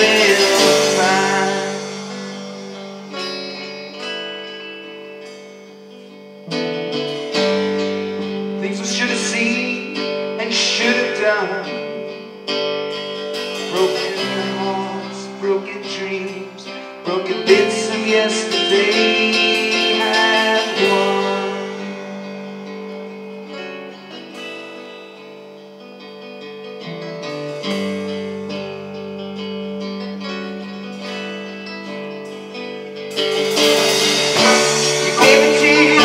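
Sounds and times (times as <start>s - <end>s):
folk-rock band playing: 0.0s - 36.0s.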